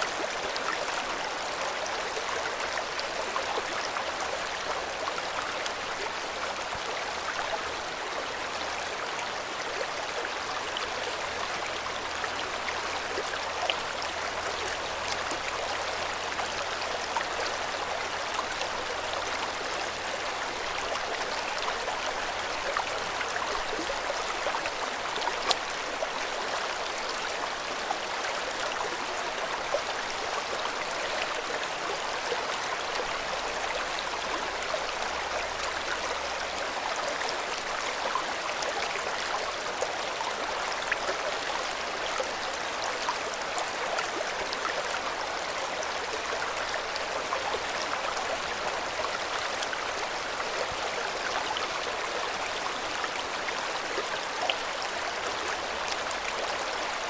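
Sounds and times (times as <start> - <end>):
river water rushing and babbling: 0.0 - 57.0.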